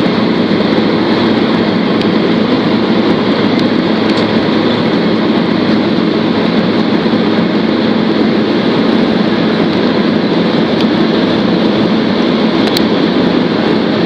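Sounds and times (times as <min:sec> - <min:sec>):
jet engines heard from cabin: 0:00.0 - 0:14.0.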